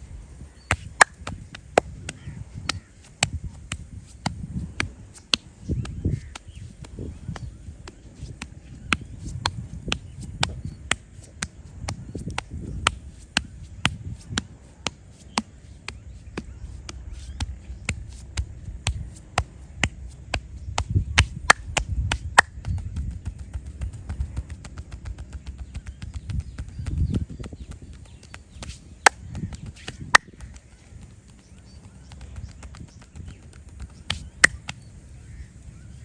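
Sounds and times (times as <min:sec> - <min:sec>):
hands slapping in massage: 0:00.7 - 0:31.1, 0:32.1 - 0:34.8.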